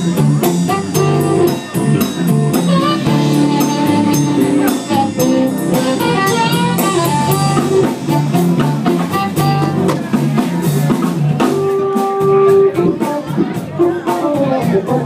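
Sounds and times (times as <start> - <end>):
drum kit: 0.0 - 15.0
electric guitar: 0.0 - 15.0.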